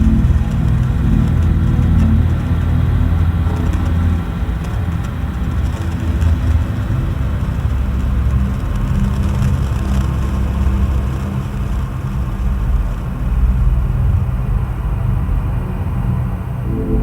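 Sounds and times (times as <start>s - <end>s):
deep rumbling drone: 0.0s - 17.0s.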